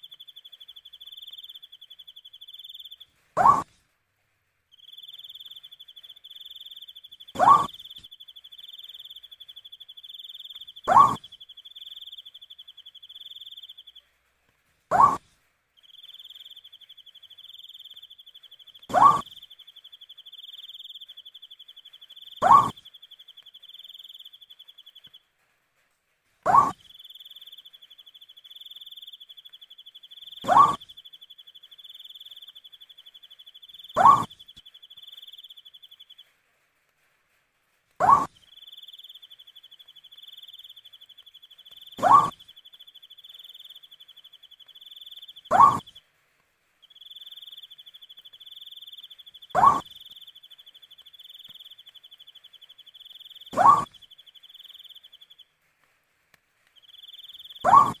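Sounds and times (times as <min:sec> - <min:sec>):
owl hooting: 0:00.0 - 0:03.7, 0:04.8 - 0:14.0, 0:14.9 - 0:15.2, 0:15.8 - 0:25.2, 0:26.5 - 0:36.2, 0:38.0 - 0:46.0, 0:46.9 - 0:55.4, 0:56.8 - 0:58.0.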